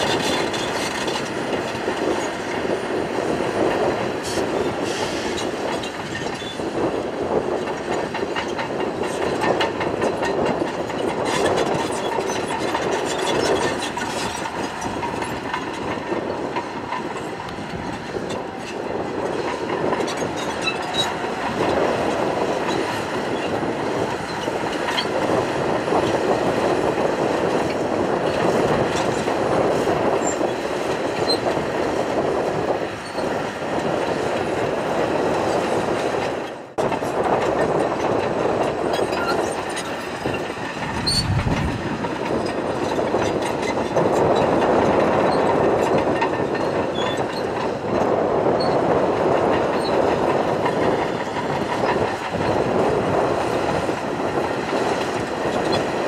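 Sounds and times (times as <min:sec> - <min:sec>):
bulldozer engine under load: 0:00.0 - 0:56.0
steel tracks clanking and squeaking: 0:00.0 - 0:56.0.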